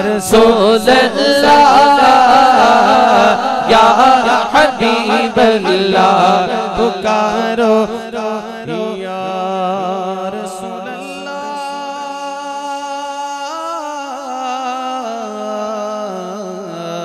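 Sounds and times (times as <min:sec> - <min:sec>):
man singing a long note: 0:00.0 - 0:17.0.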